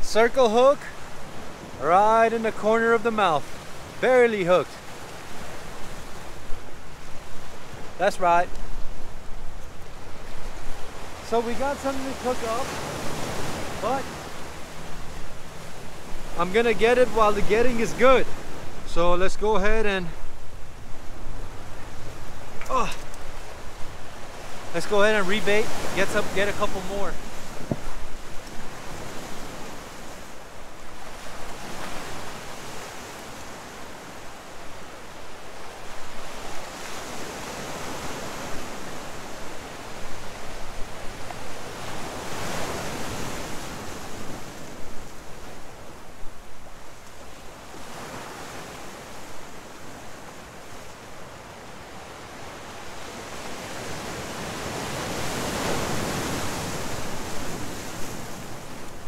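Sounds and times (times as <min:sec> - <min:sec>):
surf washing over rocks: 0:00.0 - 0:59.0.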